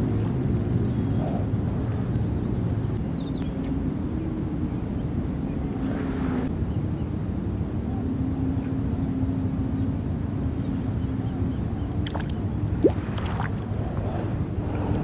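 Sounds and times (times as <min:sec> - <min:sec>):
distant motor drone: 0:00.0 - 0:15.0
low rumbling: 0:00.0 - 0:15.0.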